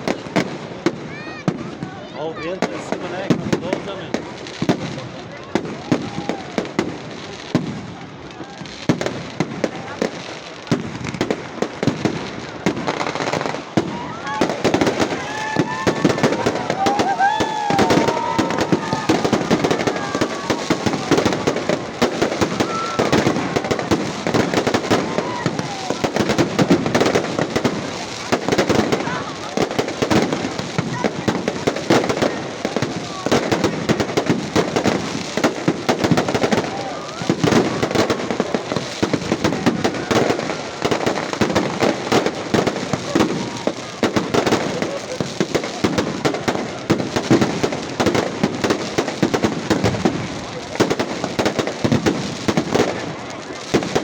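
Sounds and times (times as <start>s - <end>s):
fireworks crackling pops: 0.0s - 54.0s.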